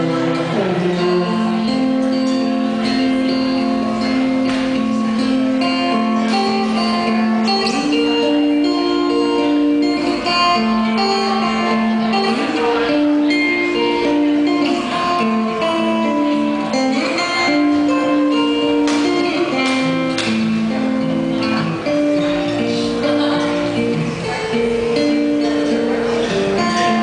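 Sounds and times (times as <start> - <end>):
guitar playing over a band: 0.0 - 27.0.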